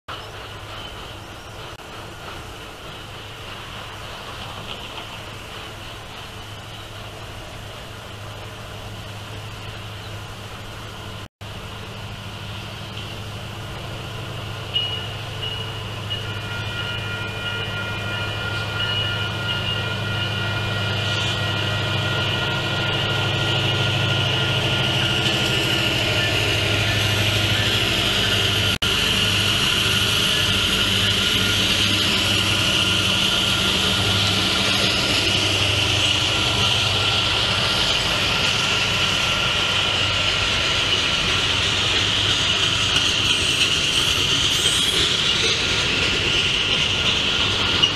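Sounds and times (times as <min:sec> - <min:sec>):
freight cars rumbling on rails: 0:00.1 - 0:47.9
locomotive engine hum: 0:00.1 - 0:47.9.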